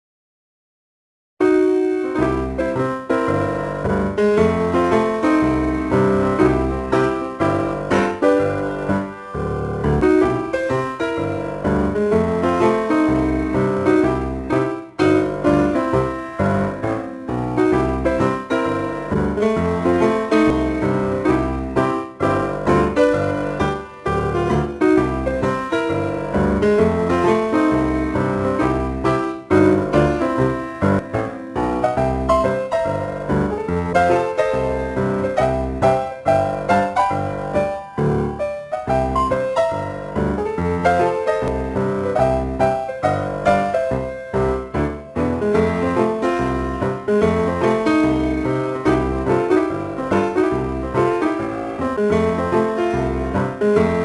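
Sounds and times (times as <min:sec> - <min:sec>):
piano background music: 0:01.4 - 0:54.0
bass line: 0:02.1 - 0:54.0.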